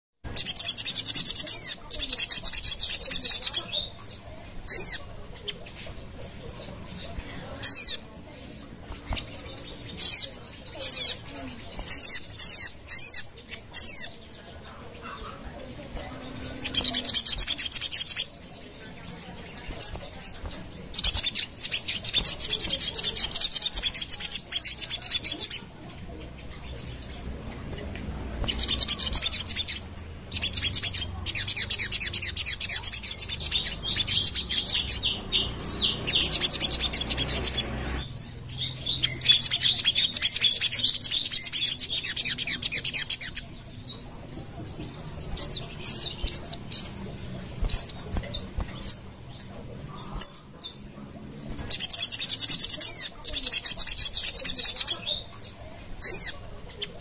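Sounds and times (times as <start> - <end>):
bird chattering trills: 0.3 - 57.0.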